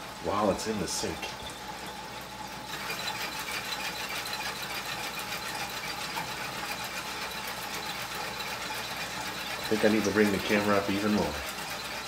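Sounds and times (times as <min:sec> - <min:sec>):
water spraying and running: 0:00.0 - 0:12.0.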